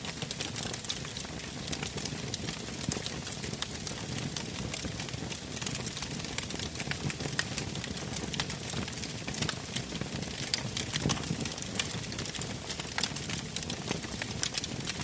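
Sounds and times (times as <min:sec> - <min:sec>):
campfire crackling and snapping: 0:00.0 - 0:15.0.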